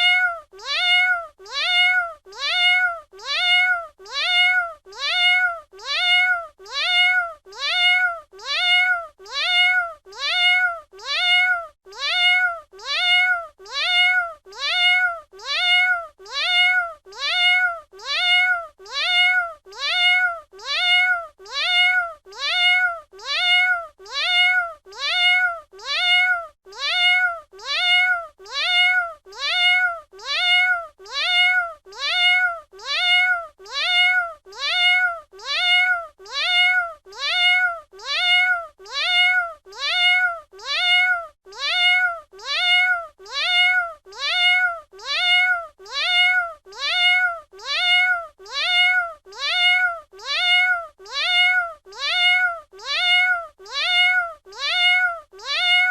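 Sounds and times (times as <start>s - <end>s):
cat meowing: 0.0s - 55.9s.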